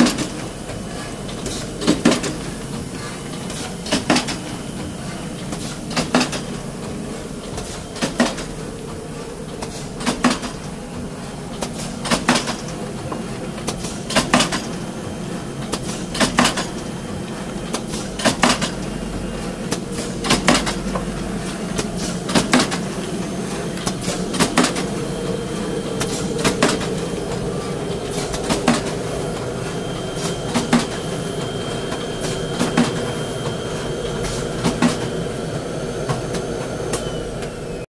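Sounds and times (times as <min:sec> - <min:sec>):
packaging machine hum: 0:00.0 - 0:37.9.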